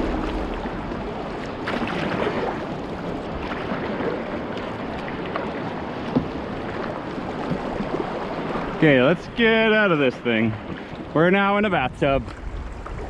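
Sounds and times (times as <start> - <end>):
river water rushing and splashing: 0.0 - 13.0.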